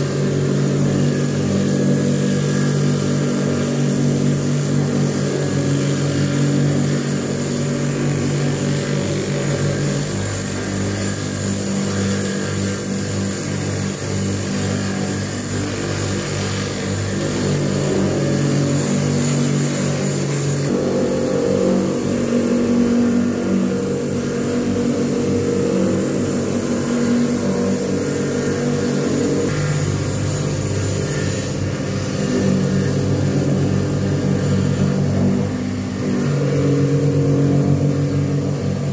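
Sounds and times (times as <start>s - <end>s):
blade rubbing on polishing wheel: 0.0s - 38.9s
polishing motor humming: 0.0s - 38.9s.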